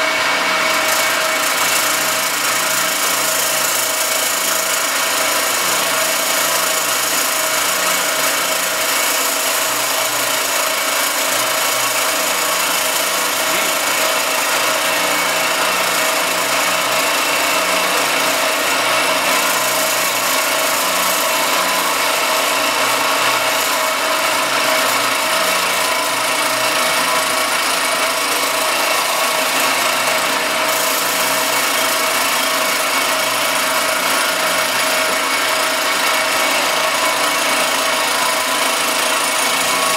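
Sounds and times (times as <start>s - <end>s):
milling machine cutting metal: 0.0s - 39.9s.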